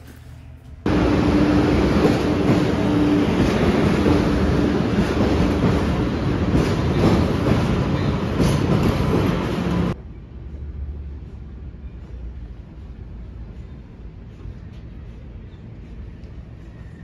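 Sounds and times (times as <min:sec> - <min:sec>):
subway train rumbling past: 0:00.0 - 0:17.0.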